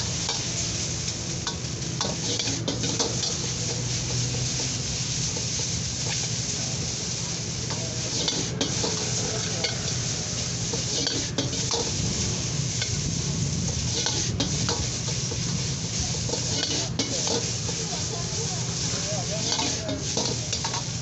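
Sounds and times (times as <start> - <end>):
gas burner roaring: 0.0 - 21.0
metal ladle scraping in a wok: 0.0 - 21.0
noodles sizzling: 0.0 - 21.0.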